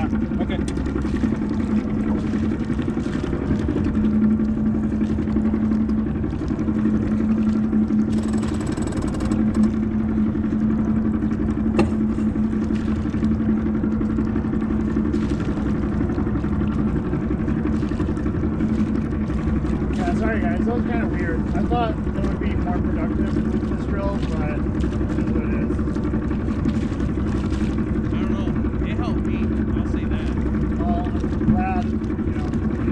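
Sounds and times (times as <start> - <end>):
boat engine humming: 0.0 - 32.9.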